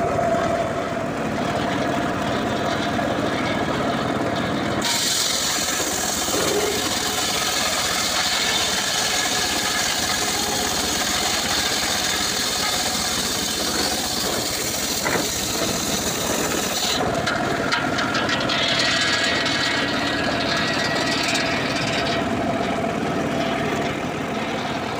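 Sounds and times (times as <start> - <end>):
circular saw cutting log: 0.0 - 24.9
saw engine running: 0.0 - 24.9.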